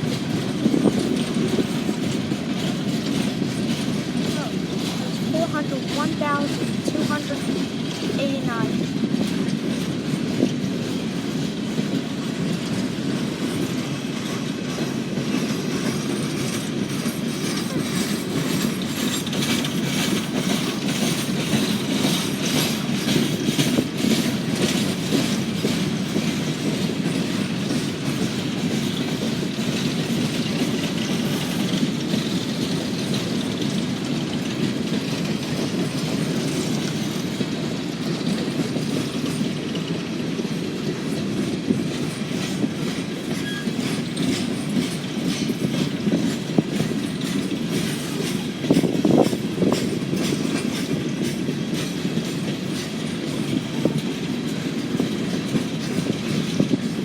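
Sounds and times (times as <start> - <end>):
freight train cars rumbling: 0.0 - 57.0
wheels clicking over rail joints: 0.0 - 57.0.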